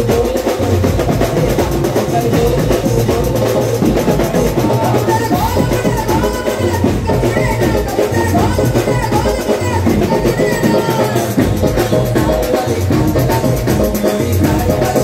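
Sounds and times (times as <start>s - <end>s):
band music with drum beat: 0.0s - 15.0s.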